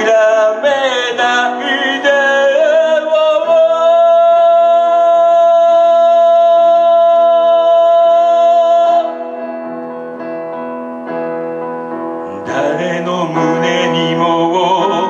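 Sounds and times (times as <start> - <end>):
man singing a high note: 0.0 - 9.4, 12.3 - 15.0
piano accompaniment: 0.0 - 15.0.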